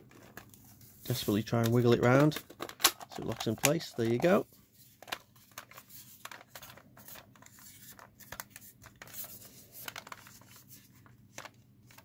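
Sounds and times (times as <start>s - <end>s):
plastic parts clicking and scraping: 1.4s - 12.0s.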